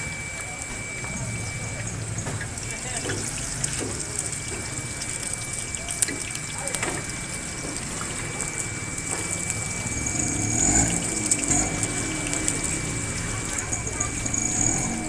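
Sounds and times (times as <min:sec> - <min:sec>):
egg sizzling on griddle: 0:01.5 - 0:15.0.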